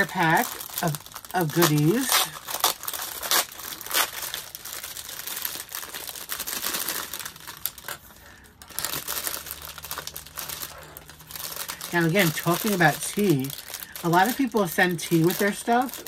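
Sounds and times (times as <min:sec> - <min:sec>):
cellophane bag crinkling: 0:00.0 - 0:16.0.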